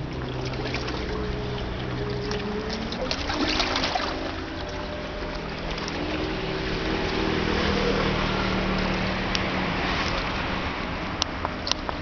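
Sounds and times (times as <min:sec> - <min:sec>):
lapping water: 0:00.0 - 0:12.0
motorboat engine humming: 0:00.0 - 0:12.0.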